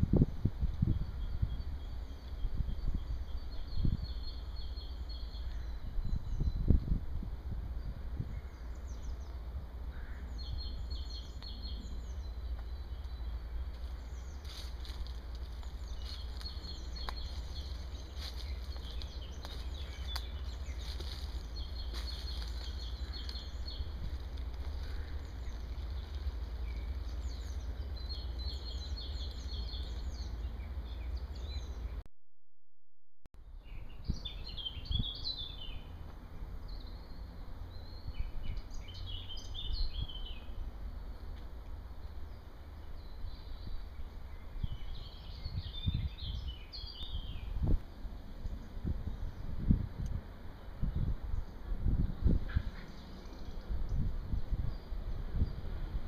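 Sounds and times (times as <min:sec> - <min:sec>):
steady low rumble: 0:00.0 - 0:32.0, 0:33.4 - 0:56.0
songbirds chirping and singing: 0:00.1 - 0:32.0, 0:33.4 - 0:56.0.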